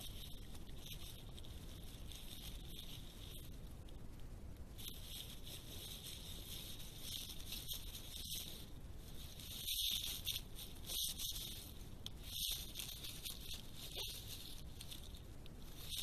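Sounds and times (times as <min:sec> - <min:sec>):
animal fur rustling against camera: 0:00.0 - 0:04.0, 0:04.7 - 0:16.0.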